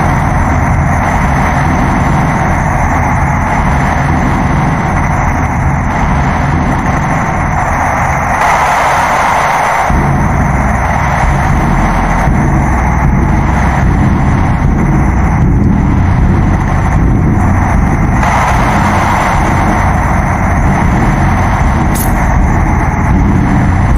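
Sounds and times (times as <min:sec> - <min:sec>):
distorted rumbling noise: 0:00.0 - 0:23.9.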